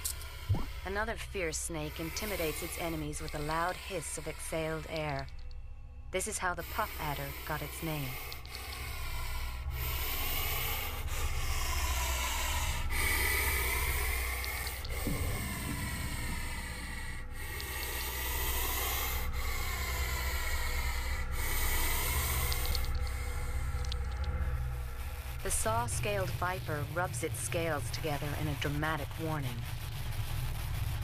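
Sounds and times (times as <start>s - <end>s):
snake hissing: 0.0s - 5.5s, 6.2s - 31.0s.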